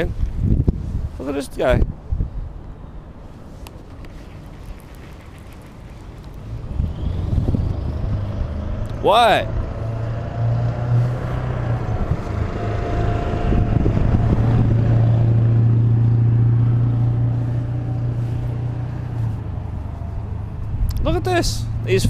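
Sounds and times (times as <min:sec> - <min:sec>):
vehicle engine drone: 0:02.7 - 0:22.0.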